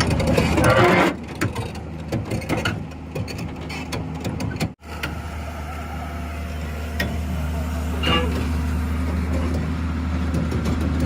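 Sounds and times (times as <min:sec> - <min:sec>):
heavy machinery diesel engine: 0:00.0 - 0:11.0.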